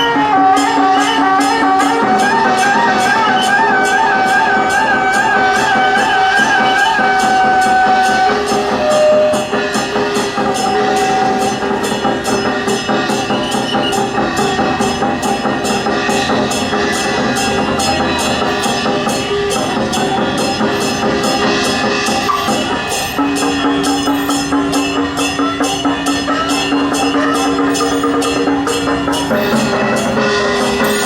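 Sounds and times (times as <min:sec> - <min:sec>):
percussion steady beat: 0:00.0 - 0:31.0
sustained melodic tones: 0:00.0 - 0:31.0.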